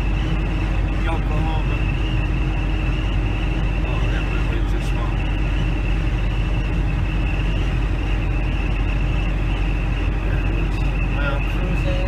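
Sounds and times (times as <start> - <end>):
thin high whine: 0.0 - 12.0
vehicle road and engine noise: 0.0 - 12.0.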